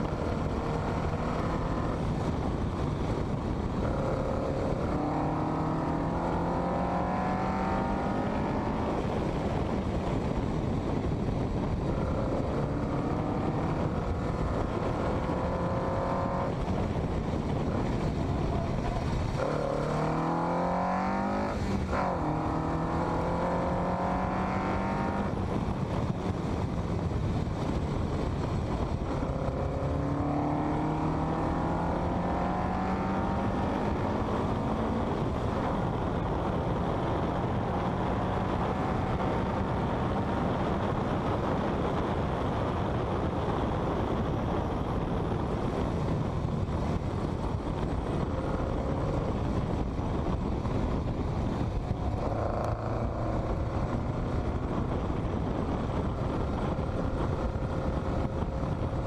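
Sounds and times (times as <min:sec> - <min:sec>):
car engine accelerating: 0:00.0 - 0:09.8, 0:11.4 - 0:26.7, 0:27.6 - 0:41.8, 0:44.1 - 0:59.0
wind rush: 0:00.0 - 0:59.0.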